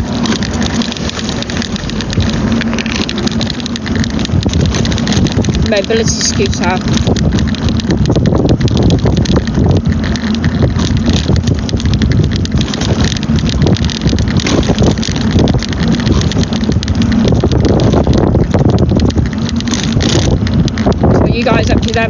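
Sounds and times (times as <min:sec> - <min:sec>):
scooter motor and wheels rumbling: 0:00.0 - 0:22.0
wind on microphone: 0:00.0 - 0:22.0.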